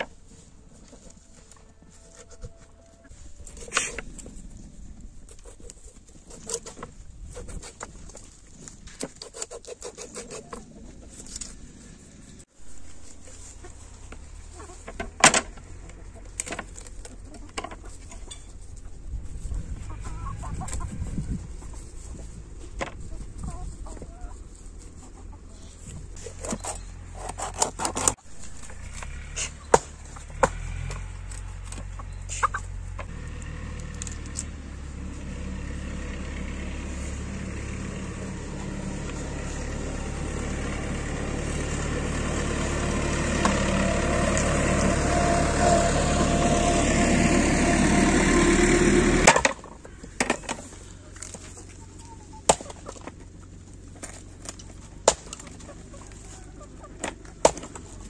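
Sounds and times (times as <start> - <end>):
engine hum: 10.5 - 58.0.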